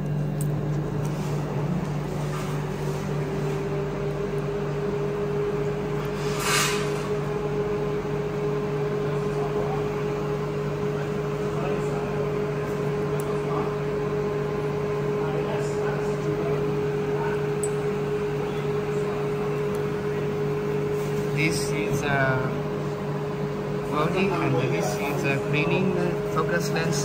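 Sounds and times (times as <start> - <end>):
machinery humming: 0.0 - 27.0.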